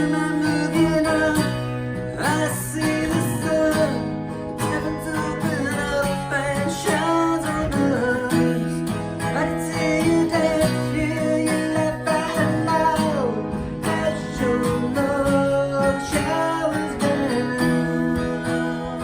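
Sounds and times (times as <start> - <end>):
acoustic guitar strumming: 0.0 - 19.0
guitar lead line bending notes: 0.0 - 19.0.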